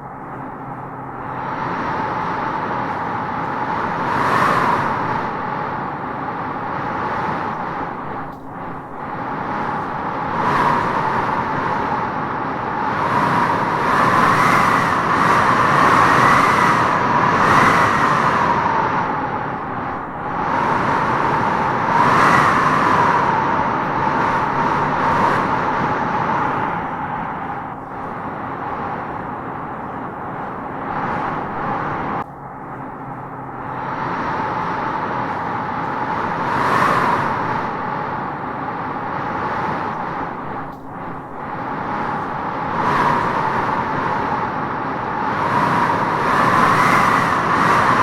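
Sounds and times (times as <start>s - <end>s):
wind howling through trees: 0.0s - 48.0s.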